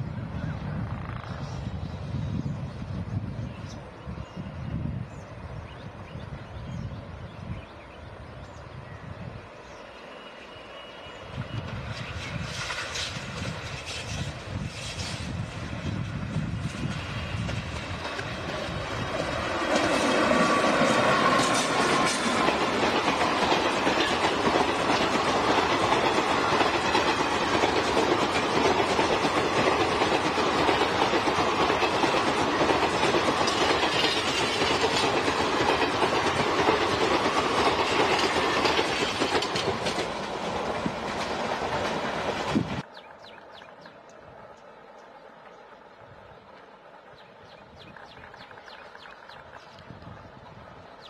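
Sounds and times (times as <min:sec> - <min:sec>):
train passing at speed: 0:00.0 - 0:51.0.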